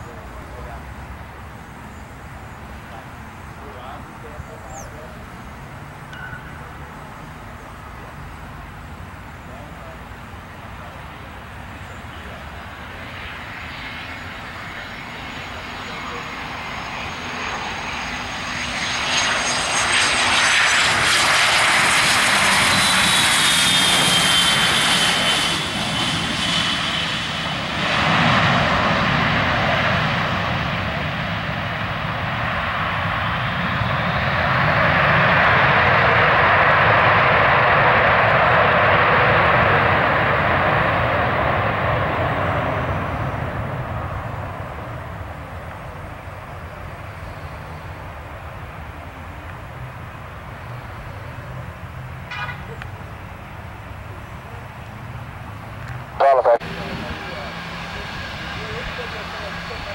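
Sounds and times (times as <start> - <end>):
jet landing with whining engines: 0.0 - 59.9.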